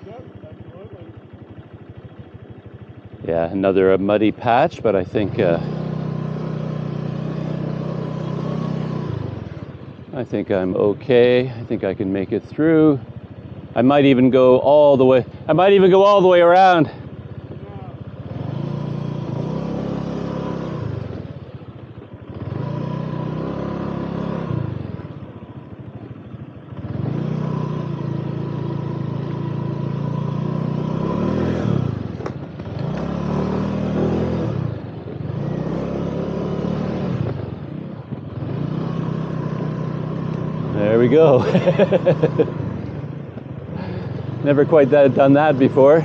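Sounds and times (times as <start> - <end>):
scooter engine revving in mud: 0.0 - 12.3, 12.9 - 46.0.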